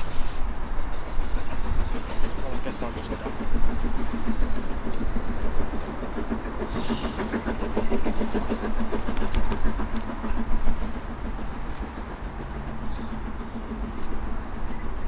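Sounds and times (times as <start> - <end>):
train running past: 0.0 - 15.0.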